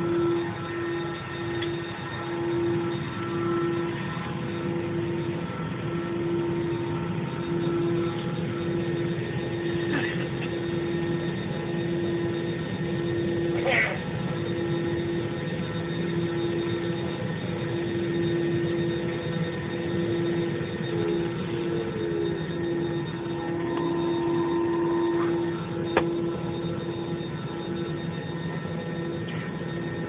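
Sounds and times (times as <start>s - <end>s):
constant whine over low hum: 0.0s - 30.0s
jet engines running: 0.0s - 30.0s.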